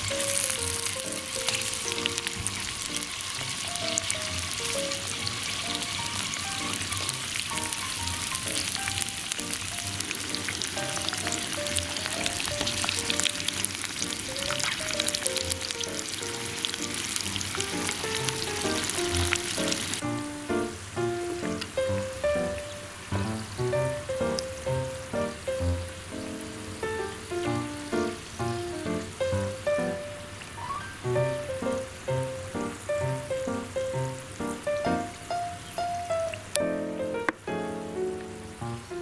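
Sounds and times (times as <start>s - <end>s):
light background music: 0.0s - 39.0s
oil sizzling and crackling: 0.0s - 39.0s.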